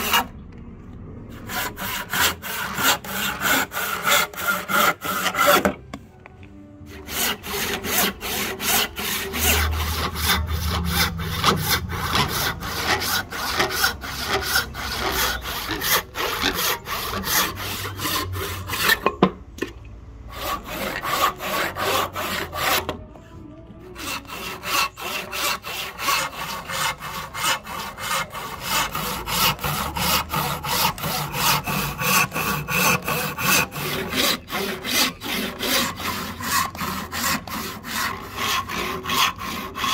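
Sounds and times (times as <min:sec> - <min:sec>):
hand saw cutting wood: 0:00.0 - 0:00.3, 0:01.3 - 0:05.8, 0:06.9 - 0:19.4, 0:20.3 - 0:23.0, 0:23.9 - 0:39.9.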